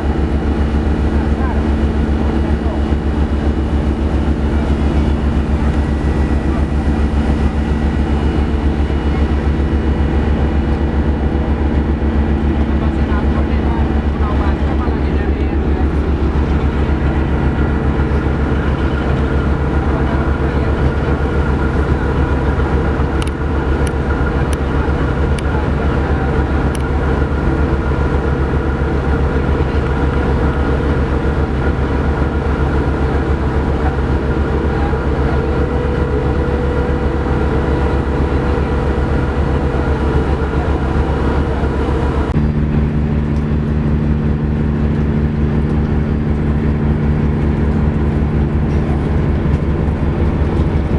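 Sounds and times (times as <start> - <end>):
ship diesel engines droning: 0.0 - 50.9.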